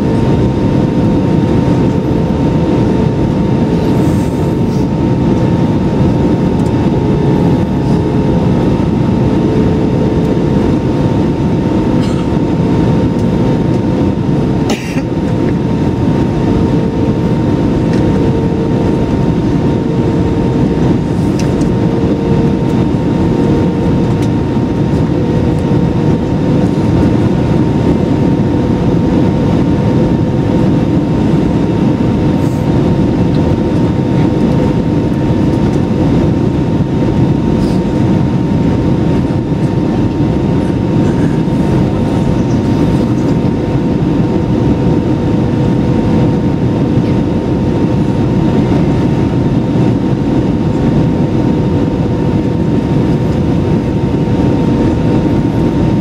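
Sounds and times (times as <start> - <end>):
faint steady hums: 0.0 - 56.0
jet engines and rushing air: 0.0 - 56.0.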